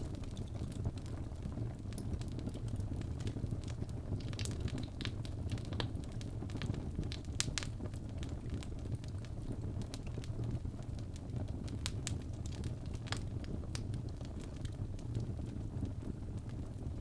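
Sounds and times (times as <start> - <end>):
fire rumbling: 0.0 - 17.0
wood fire crackling and popping: 0.0 - 17.0.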